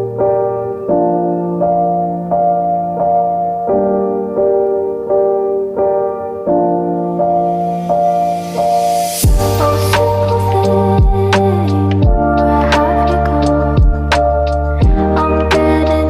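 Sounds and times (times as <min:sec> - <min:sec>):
piano-like keyboard chords: 0:00.0 - 0:16.0.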